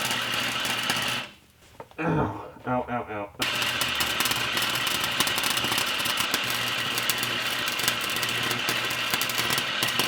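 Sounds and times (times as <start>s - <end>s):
welder humming: 0.0s - 1.4s, 2.7s - 10.0s
welding arc crackling: 0.0s - 1.5s, 3.4s - 10.0s.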